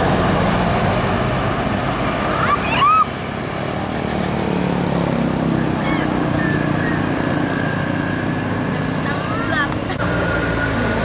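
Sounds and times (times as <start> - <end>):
bus engine driving away: 0.0 - 11.0
traffic noise: 0.0 - 11.0.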